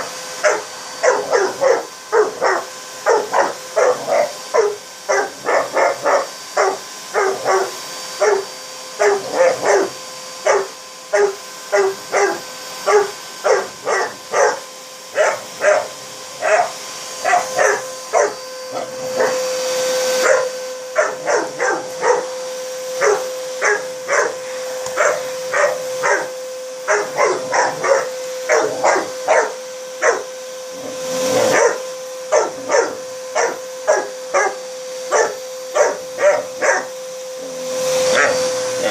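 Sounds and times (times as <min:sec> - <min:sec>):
vacuum cleaner humming: 0:00.0 - 0:38.9
puppy barking: 0:00.4 - 0:19.4, 0:20.2 - 0:22.4, 0:23.0 - 0:30.3, 0:31.3 - 0:36.9.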